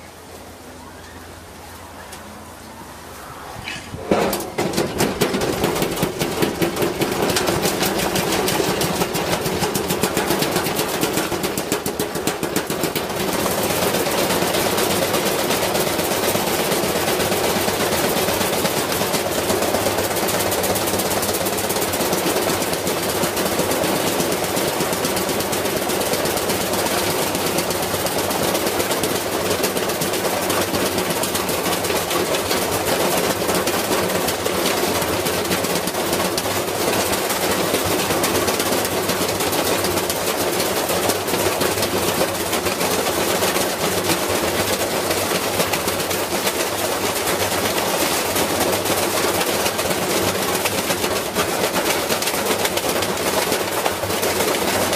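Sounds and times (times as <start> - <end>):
washing machine running: 0.0 - 54.9
metal clattering in drum: 3.9 - 54.9.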